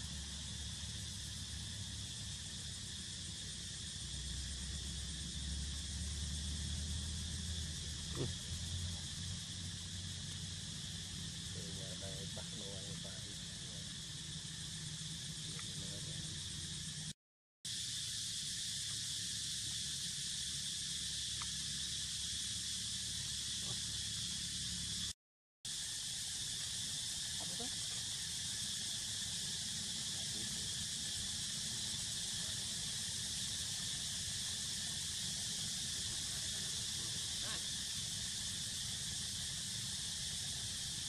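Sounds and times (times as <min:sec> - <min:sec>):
distant insect chorus: 0:00.0 - 0:41.0.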